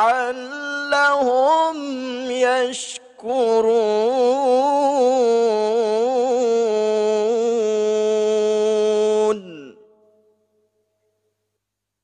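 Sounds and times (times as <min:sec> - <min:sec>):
man reciting melodically: 0:00.0 - 0:09.9.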